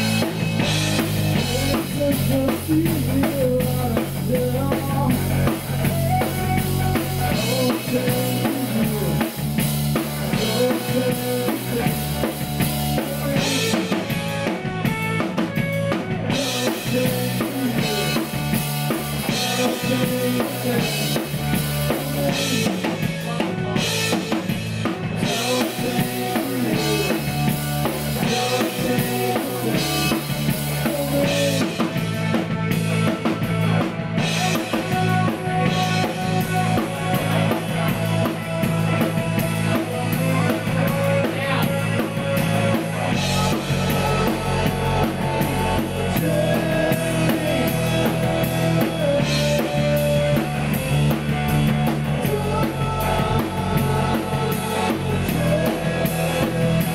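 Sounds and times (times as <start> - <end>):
drum kit beat: 0.0 - 56.9
electric guitars: 0.0 - 56.9.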